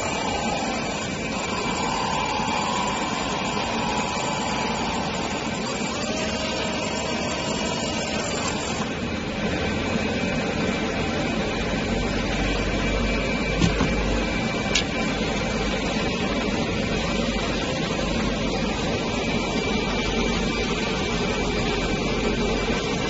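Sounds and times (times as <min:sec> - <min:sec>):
faint high whine: 0:00.0 - 0:23.0
laser marking machine humming: 0:00.0 - 0:23.0.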